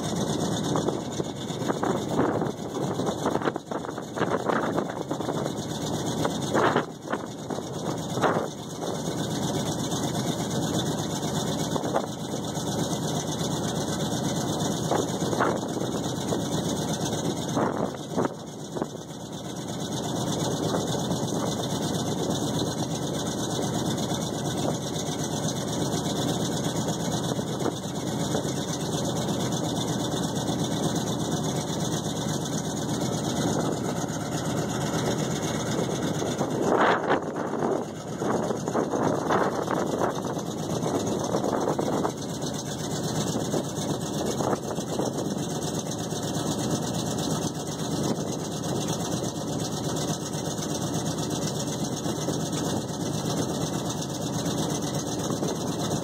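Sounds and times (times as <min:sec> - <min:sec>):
pickup engines running: 0:00.0 - 0:56.0.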